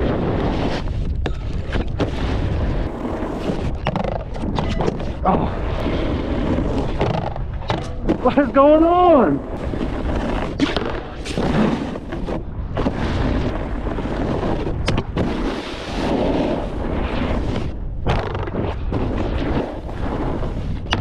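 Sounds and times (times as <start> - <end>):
snowboard scraping snow: 0.0 - 20.9
wind rumbling on microphone: 0.0 - 21.0.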